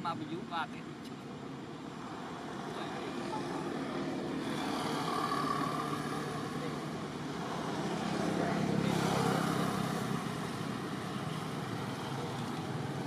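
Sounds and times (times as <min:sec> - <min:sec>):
vehicle passing: 0:01.9 - 0:13.0.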